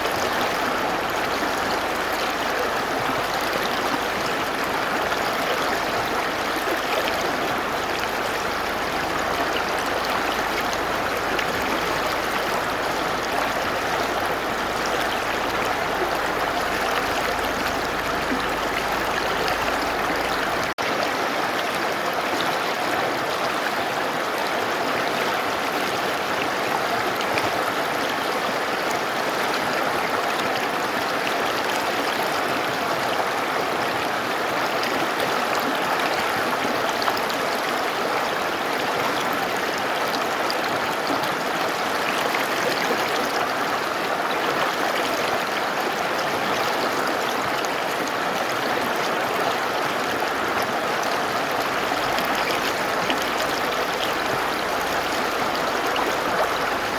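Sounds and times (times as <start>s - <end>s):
river rushing over rocks: 0.0s - 56.9s.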